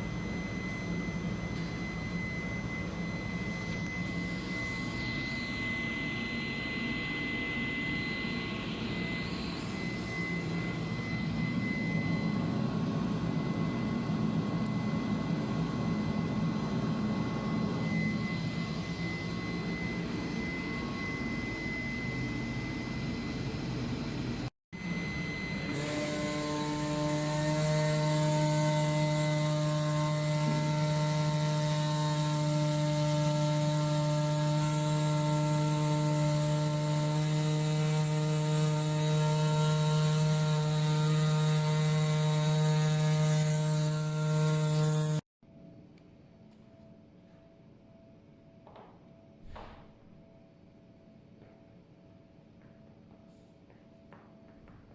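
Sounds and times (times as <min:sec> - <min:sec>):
flatbed cutter machine running: 0:00.0 - 0:45.2
steady hum with held tones: 0:00.0 - 0:54.9.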